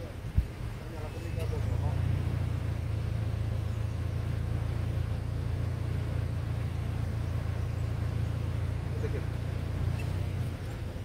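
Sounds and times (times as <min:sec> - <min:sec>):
small engine humming: 0:01.0 - 0:11.0.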